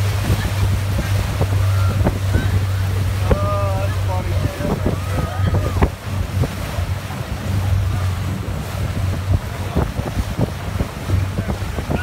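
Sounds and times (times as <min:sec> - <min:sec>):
churning wake water: 0:00.0 - 0:12.0
outboard motor running: 0:00.0 - 0:12.0
wind buffeting microphone: 0:00.0 - 0:12.0.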